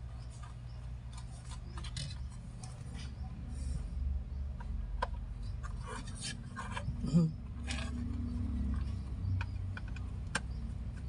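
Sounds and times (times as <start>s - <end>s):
plastic parts clicking and scraping: 0.4s - 3.2s, 4.6s - 11.0s.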